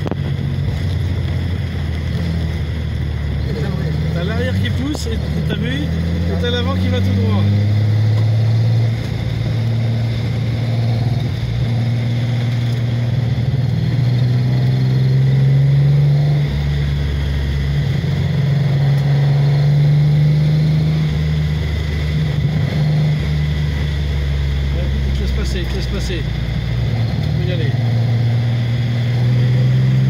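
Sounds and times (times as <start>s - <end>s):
car engine pulling hard: 0.0s - 30.0s.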